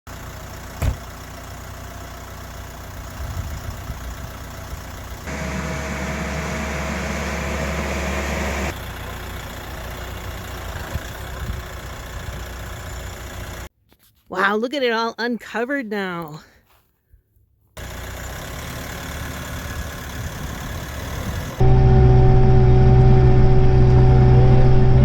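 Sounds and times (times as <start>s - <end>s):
engine idling: 0.1s - 13.7s, 17.8s - 25.0s.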